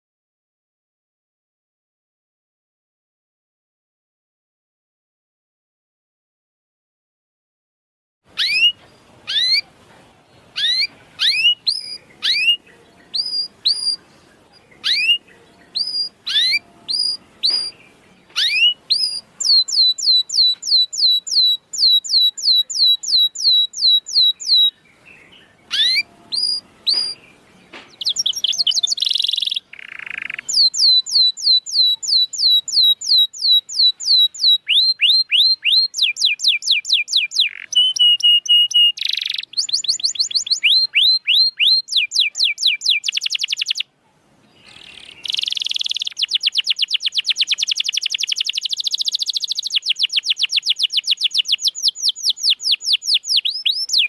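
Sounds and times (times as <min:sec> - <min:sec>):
canary singing: 0:08.3 - 0:54.0.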